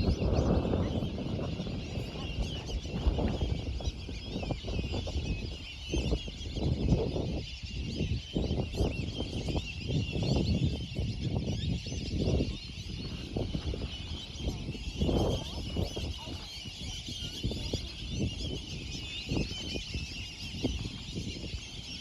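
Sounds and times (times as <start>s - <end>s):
birds chirping chorus: 0.0s - 22.0s.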